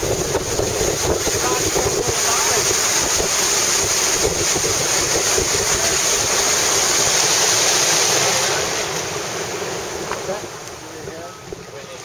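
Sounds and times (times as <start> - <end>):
water rushing past boat hull: 0.0 - 12.0
wind buffeting microphone: 0.0 - 12.0.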